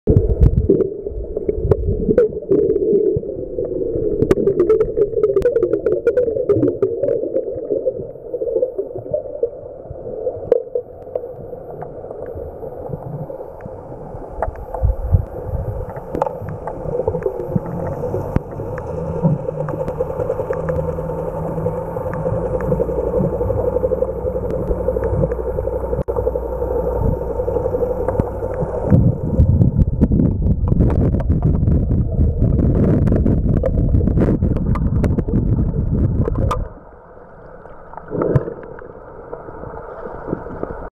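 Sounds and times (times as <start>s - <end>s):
underwater hum and water noise: 0.0s - 40.9s
low rumble: 0.1s - 40.9s.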